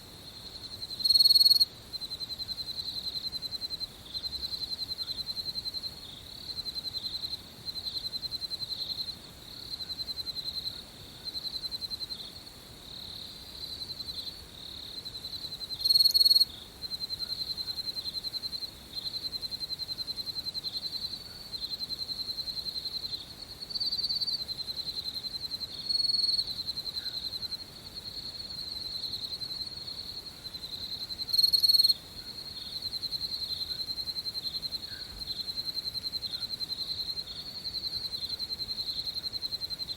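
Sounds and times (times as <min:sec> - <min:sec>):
close cricket chirps: 0:00.0 - 0:39.9
crickets chirping: 0:00.0 - 0:39.9.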